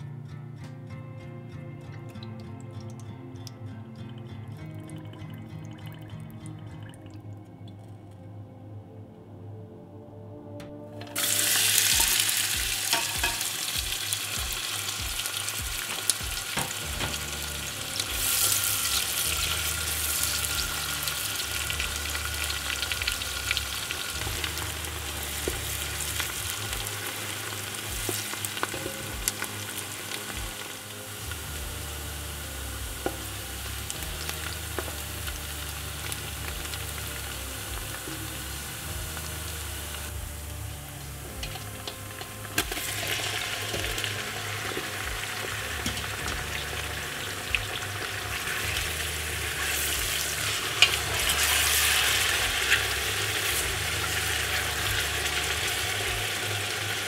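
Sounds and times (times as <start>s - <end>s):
onions sizzling in hot oil: 11.1s - 57.0s.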